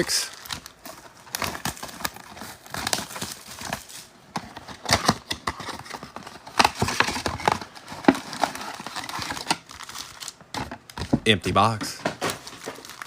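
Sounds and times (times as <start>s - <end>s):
plastic wrapper crinkling: 0.0s - 11.2s, 12.1s - 13.0s
card boxes tapping and clicking: 1.4s - 13.0s.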